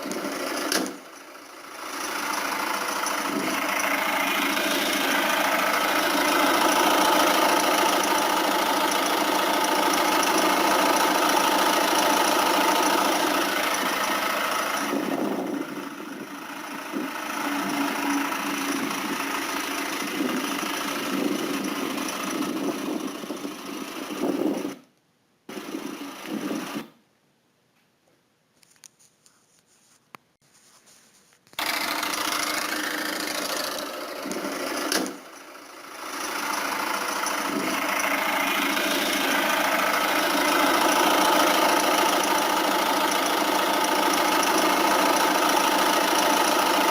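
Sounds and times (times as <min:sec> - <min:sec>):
diesel engine running: 0:00.0 - 0:24.8, 0:25.5 - 0:26.9, 0:31.6 - 0:46.9.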